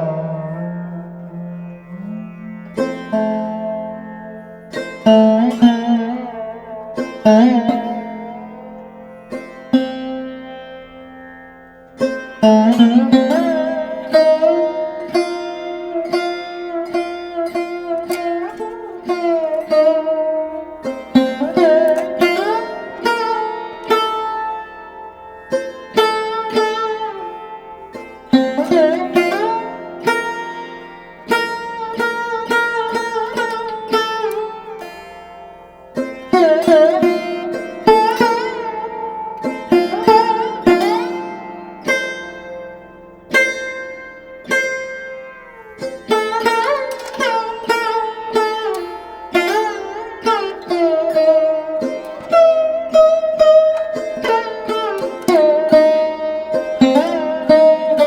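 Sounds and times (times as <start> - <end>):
plucked string instrument notes: 0.0 - 58.0.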